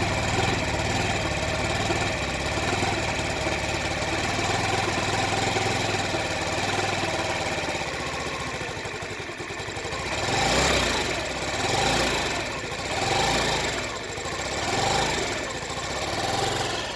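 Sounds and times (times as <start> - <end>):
scooter engine surging roughly: 0.0 - 16.9.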